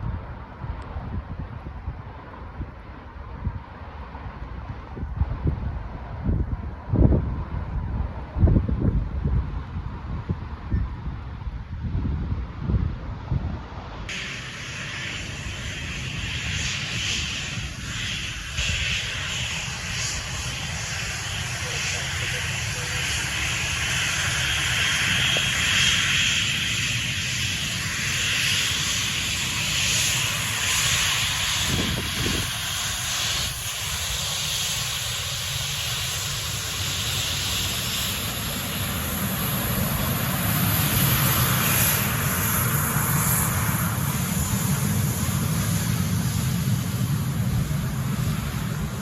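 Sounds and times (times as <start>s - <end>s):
airliner engines hiss and whine: 0.0s - 49.0s.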